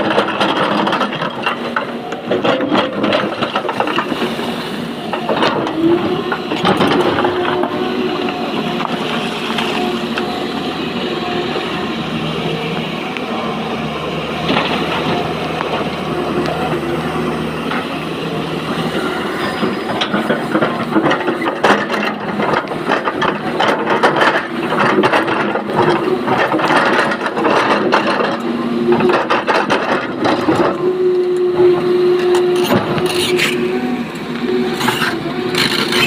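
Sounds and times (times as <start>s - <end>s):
excavator engine and hydraulics humming: 0.0s - 36.0s.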